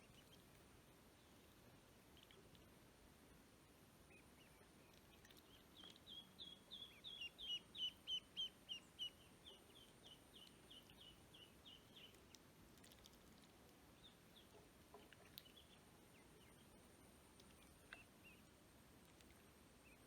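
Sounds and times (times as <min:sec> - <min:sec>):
ducklings peeping: 0:00.0 - 0:00.6, 0:01.2 - 0:02.7, 0:04.1 - 0:20.0.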